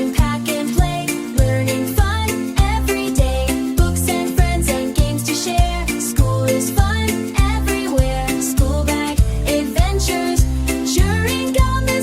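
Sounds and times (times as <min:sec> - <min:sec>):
bright children's song melody: 0:00.0 - 0:12.0.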